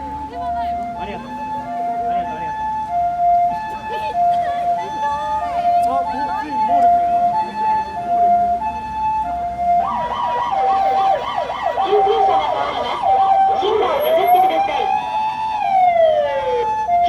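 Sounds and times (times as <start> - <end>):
ambulance siren: 0.0 - 17.0.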